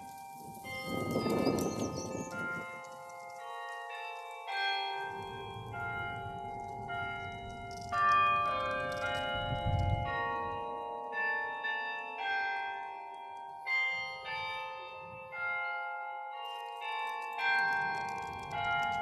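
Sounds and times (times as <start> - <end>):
carillon bells playing slow tune: 0.0 - 19.0.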